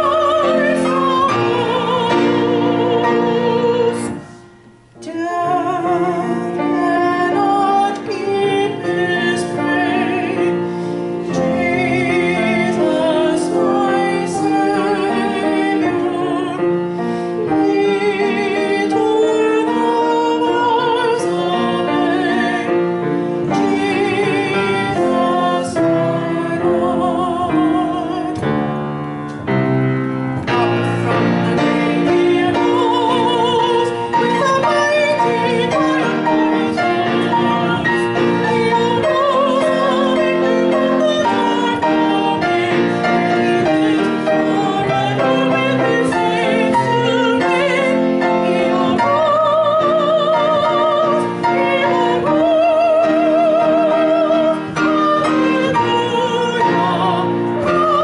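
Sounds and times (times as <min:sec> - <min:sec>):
piano: 0:00.0 - 0:58.0
soprano singing a hymn: 0:00.0 - 0:58.0.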